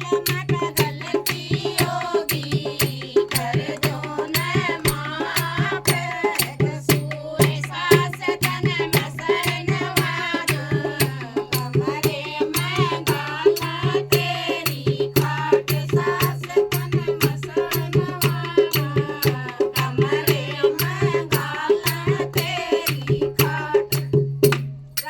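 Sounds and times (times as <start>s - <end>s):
percussion beat: 0.0s - 25.0s.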